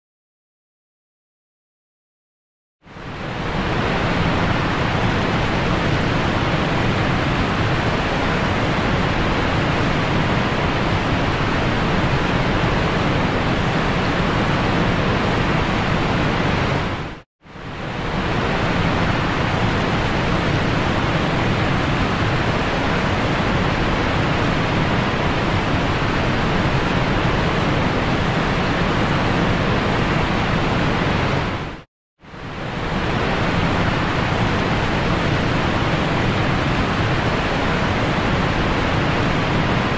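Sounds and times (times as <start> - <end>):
wind over microphone: 2.9 - 39.9
churning wake water: 3.0 - 39.9.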